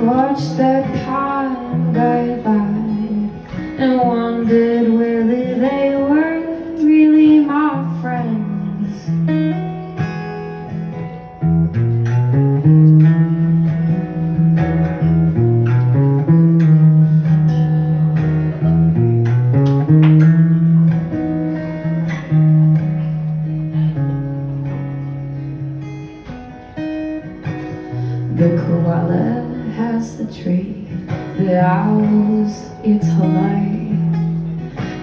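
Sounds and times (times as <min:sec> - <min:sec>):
guitar playing instrumental: 0:00.0 - 0:35.0.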